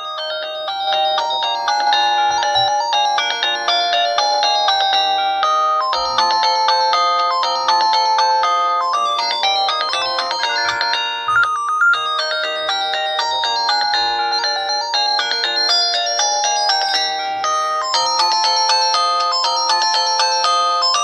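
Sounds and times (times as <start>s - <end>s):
polyphonic phone ringtone: 0.0s - 21.0s.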